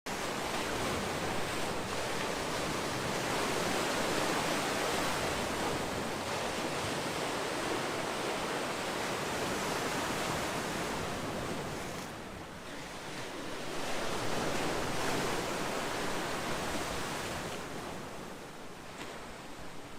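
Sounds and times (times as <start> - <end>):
sea waves breaking ashore: 0.1 - 19.9.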